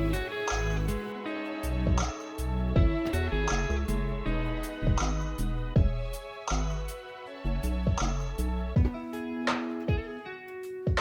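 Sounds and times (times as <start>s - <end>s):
song with bass and drums: 0.0s - 11.0s.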